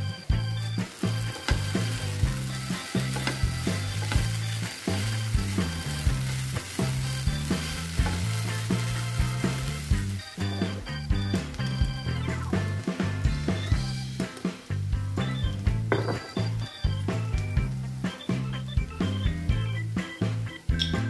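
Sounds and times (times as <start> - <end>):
background music with beat: 0.0 - 21.0
okra sizzling in oil: 0.2 - 20.8
spatula stirring in pan: 0.3 - 18.7.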